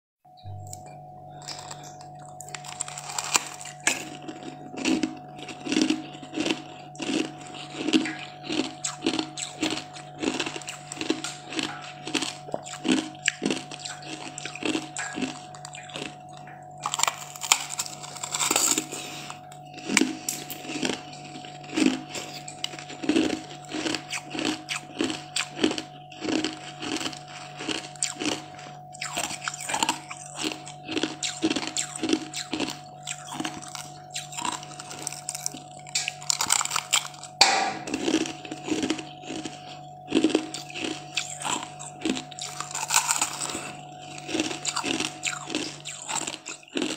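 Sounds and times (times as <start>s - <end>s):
chewing ice: 0.6s - 46.9s
crunching ice: 1.4s - 46.9s.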